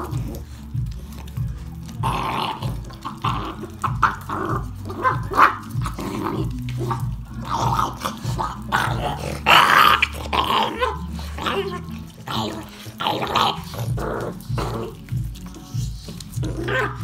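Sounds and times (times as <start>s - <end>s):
puppies growling: 0.0s - 17.0s
snarling and chewing: 0.0s - 17.0s.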